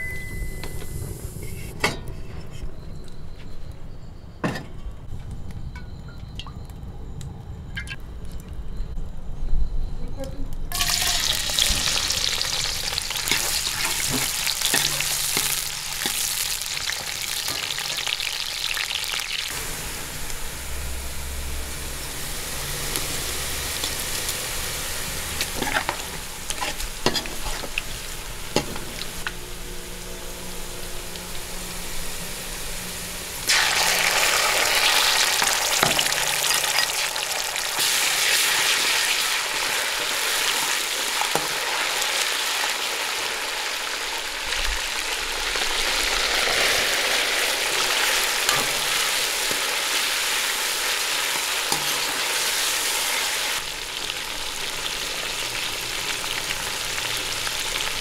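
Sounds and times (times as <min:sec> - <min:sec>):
onions sizzling in hot oil: 0:10.7 - 0:58.0.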